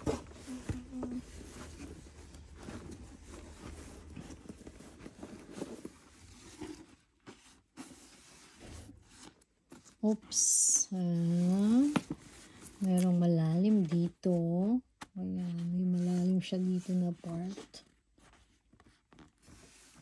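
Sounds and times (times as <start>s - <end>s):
paper and cloth bag rustling: 0.0s - 20.0s.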